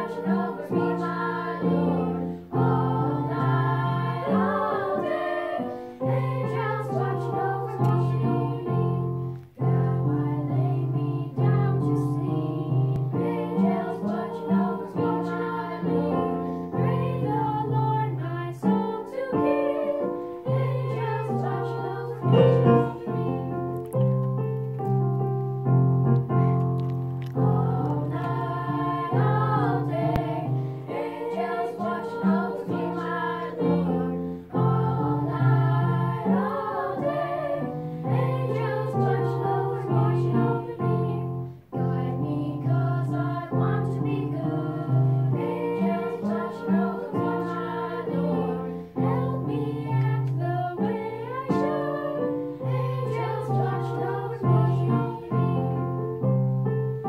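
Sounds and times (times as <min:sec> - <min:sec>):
boys singing together: 0:00.0 - 0:08.9, 0:09.6 - 0:23.2, 0:27.4 - 0:41.2, 0:41.9 - 0:55.6
piano accompaniment: 0:00.0 - 0:57.0.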